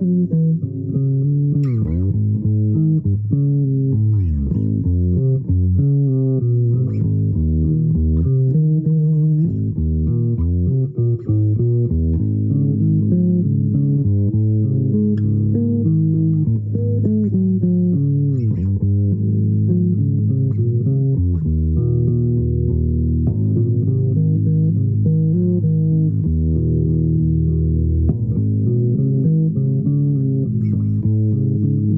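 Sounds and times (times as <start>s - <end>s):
low plucked string melody: 0.0s - 31.9s.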